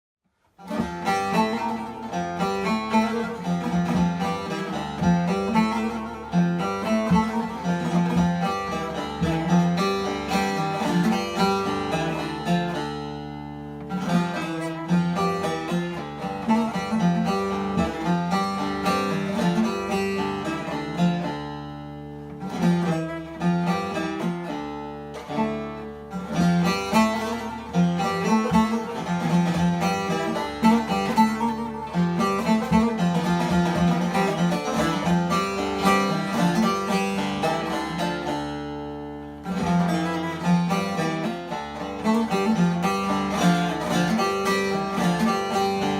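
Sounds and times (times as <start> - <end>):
plucked long-necked lute: 0.3 - 45.9.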